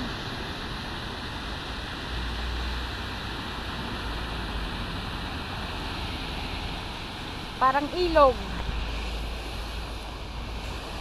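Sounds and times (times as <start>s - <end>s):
traffic splashing through floodwater: 0.0s - 11.0s.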